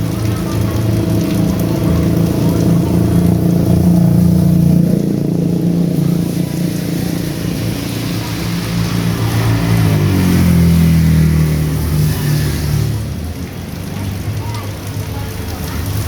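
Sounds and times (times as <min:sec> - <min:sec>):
heavy rain hissing: 0:00.0 - 0:16.0
vehicle engine humming: 0:00.0 - 0:16.0.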